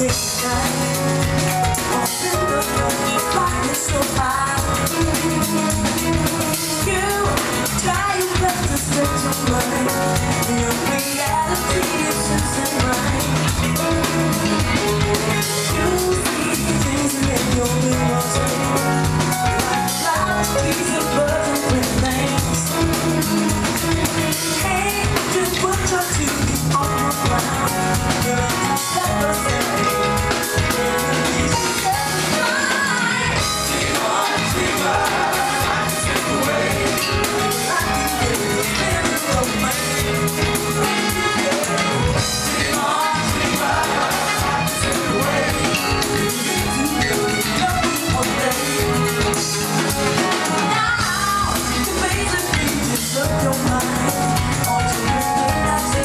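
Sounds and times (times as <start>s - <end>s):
drum kit groove: 0.0s - 56.0s
electric bass: 0.0s - 56.0s
keyboards: 0.0s - 56.0s
woman singing: 0.0s - 56.0s.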